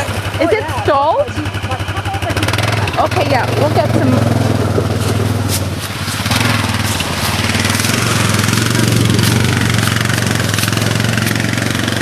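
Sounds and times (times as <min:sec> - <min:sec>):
atv engine idling: 0:00.0 - 0:12.0
noisy wash: 0:00.0 - 0:12.0.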